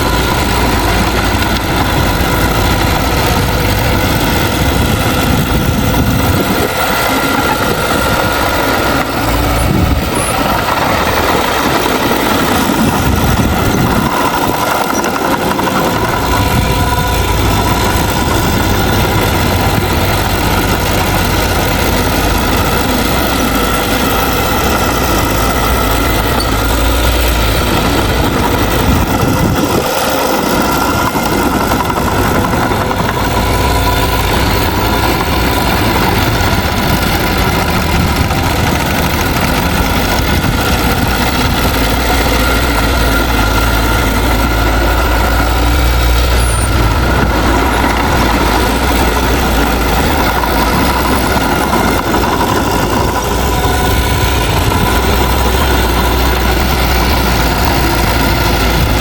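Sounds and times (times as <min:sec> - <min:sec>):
bulldozer diesel engine running: 0:00.0 - 0:59.0
steady whine: 0:00.0 - 0:59.0.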